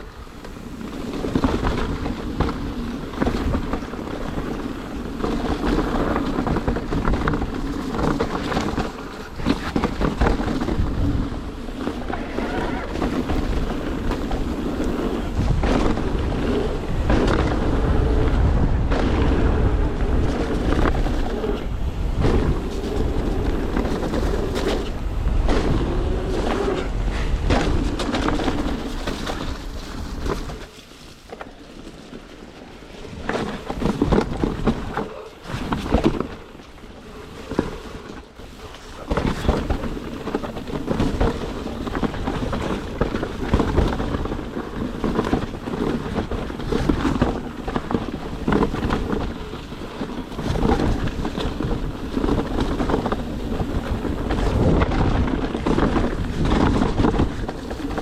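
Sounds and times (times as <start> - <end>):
bike rattling and knocking: 0.0 - 58.0
wind buffeting microphone: 0.0 - 58.0.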